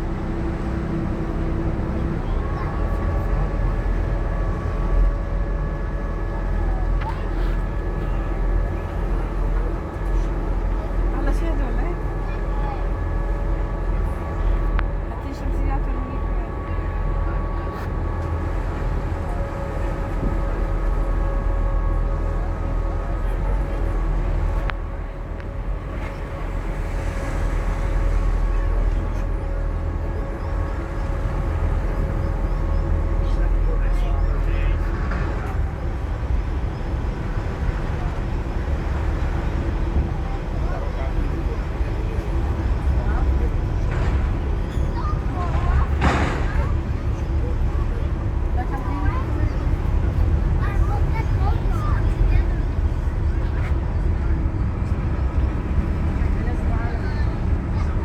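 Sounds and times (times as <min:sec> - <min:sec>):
ferry engines rumbling: 0:00.0 - 0:58.0.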